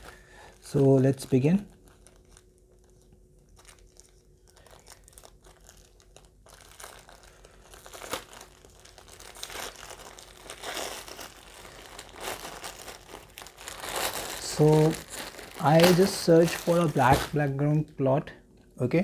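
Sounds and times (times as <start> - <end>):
plastic mailer bag rustling: 0.0 - 17.9.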